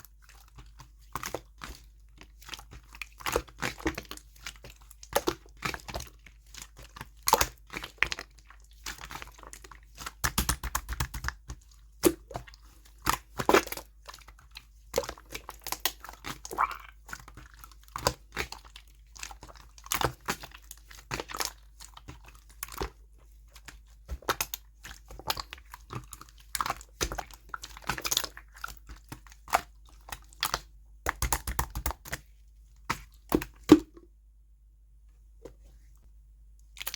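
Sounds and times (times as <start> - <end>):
slime squished by hand: 0.1 - 34.0, 36.7 - 36.9.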